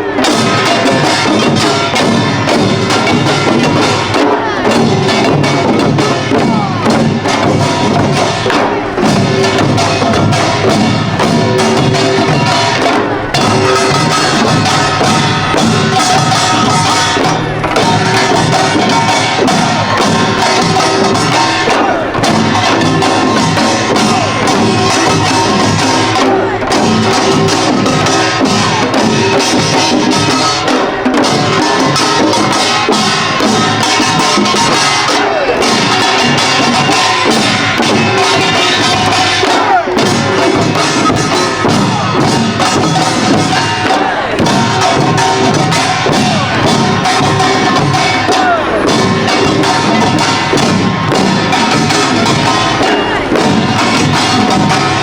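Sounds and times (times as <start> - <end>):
drums beating fast rhythm: 0.0 - 55.0
hand gongs: 0.2 - 55.0.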